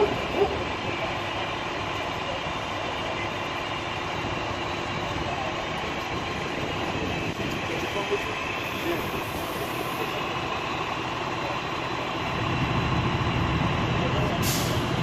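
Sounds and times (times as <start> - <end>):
fire engines idling: 0.0 - 15.0.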